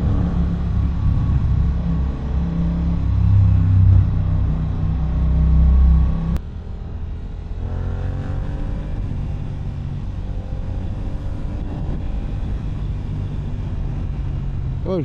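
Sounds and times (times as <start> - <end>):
motorcycle engine accelerating: 0.0 - 14.8.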